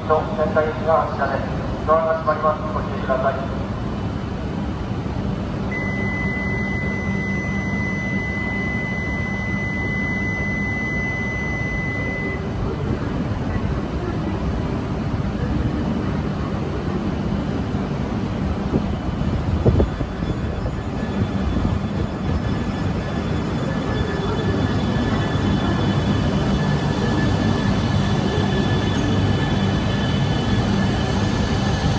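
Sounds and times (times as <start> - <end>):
low rumble of trains: 0.0 - 31.9.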